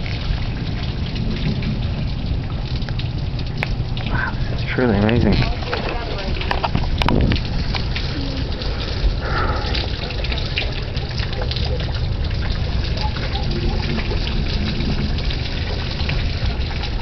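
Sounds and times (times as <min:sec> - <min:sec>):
wind buffeting microphone: 0:00.0 - 0:17.0
dense crackle of small hits: 0:00.2 - 0:17.0.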